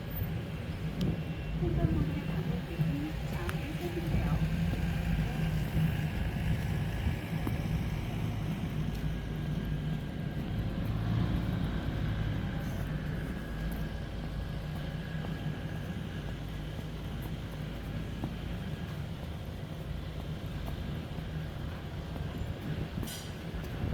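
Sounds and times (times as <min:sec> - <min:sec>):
traffic engine rumble: 0:00.0 - 0:23.9.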